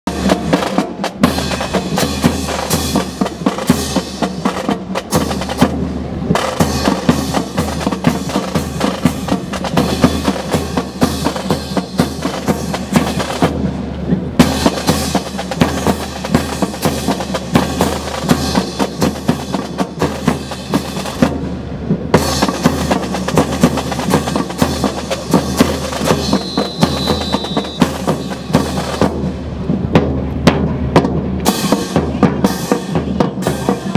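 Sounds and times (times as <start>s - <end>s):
marching snare drum cadence: 0.1s - 33.9s.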